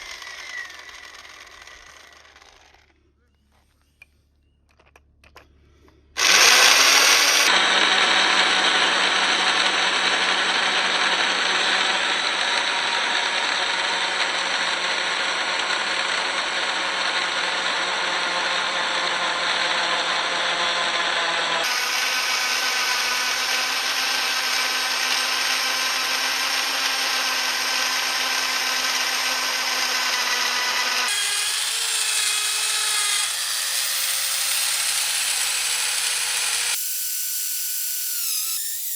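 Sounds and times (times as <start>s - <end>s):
power drill boring into wood: 0.0s - 3.0s, 6.2s - 38.9s.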